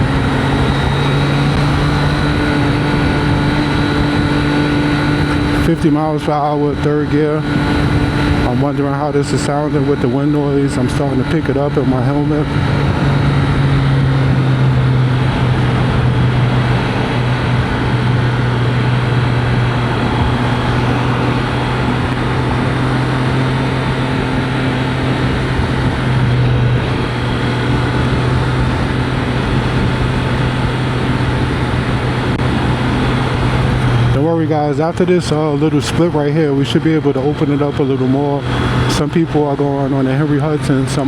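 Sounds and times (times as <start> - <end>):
motorcycle engine cruising: 0.0 - 41.0
wind noise over helmet: 0.0 - 41.0.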